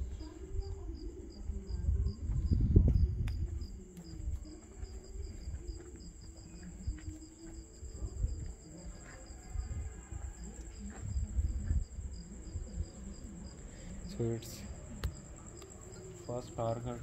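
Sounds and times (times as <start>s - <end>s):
crickets chirping: 0.0s - 17.0s
high insect trill: 0.0s - 17.0s.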